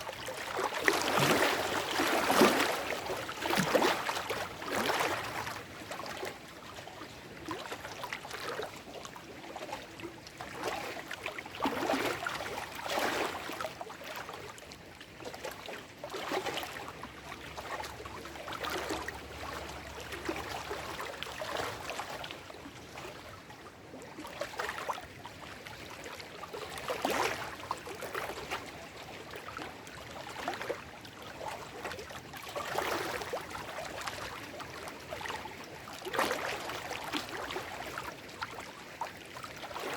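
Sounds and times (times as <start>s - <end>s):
water lapping: 0.0s - 39.9s.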